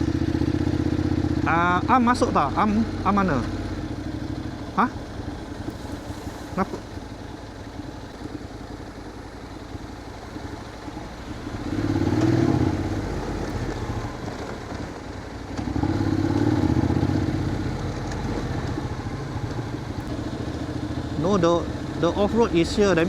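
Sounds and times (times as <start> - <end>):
motorcycle engines running: 0.0 - 23.0.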